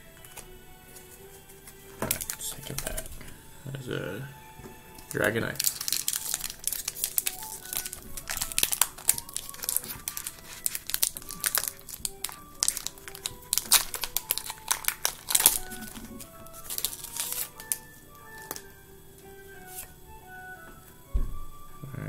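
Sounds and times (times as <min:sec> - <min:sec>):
light background music: 0:00.0 - 0:22.0
foil wrapper crinkling: 0:00.2 - 0:03.4, 0:05.0 - 0:20.0.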